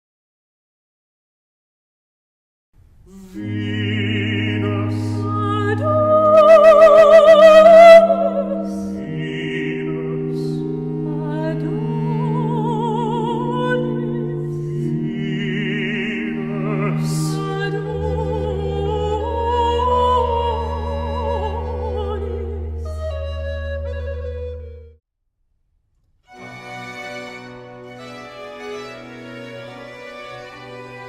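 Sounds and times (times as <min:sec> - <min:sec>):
operatic music: 0:03.3 - 0:25.0, 0:26.3 - 0:31.0.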